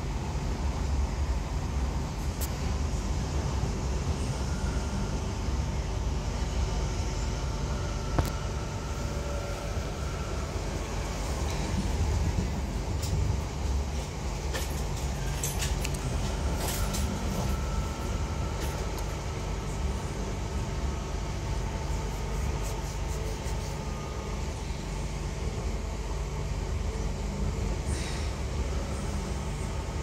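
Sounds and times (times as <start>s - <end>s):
faint steady whine: 0.0s - 30.0s
low rumble inside train carriage: 0.0s - 30.0s.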